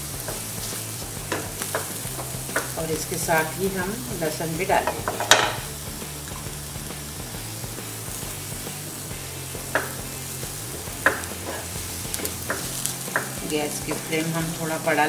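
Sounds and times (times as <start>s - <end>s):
onion frying in butter: 0.0s - 15.0s.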